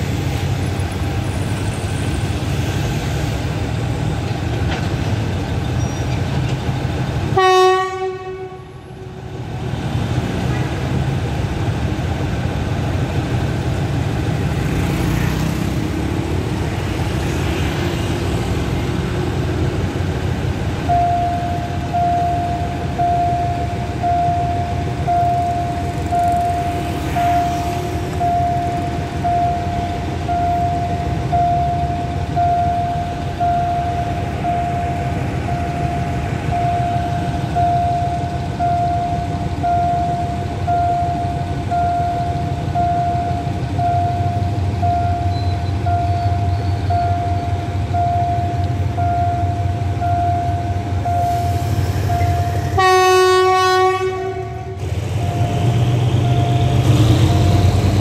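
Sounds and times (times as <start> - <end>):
low rumble of road traffic: 0.0 - 58.0
train passing: 0.0 - 58.0
crossing warning beeps: 5.3 - 58.0.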